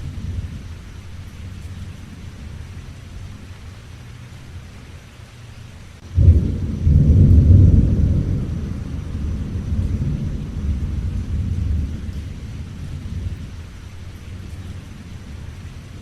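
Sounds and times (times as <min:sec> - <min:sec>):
thunder rumbling: 0:00.0 - 0:05.0, 0:06.0 - 0:16.0
rain hiss: 0:00.0 - 0:16.0.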